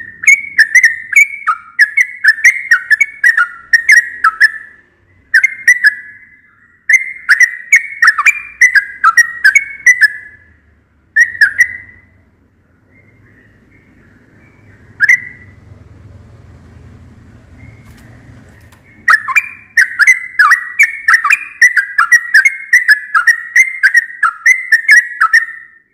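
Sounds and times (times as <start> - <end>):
bulbul singing: 0.0 - 16.0, 16.8 - 25.9.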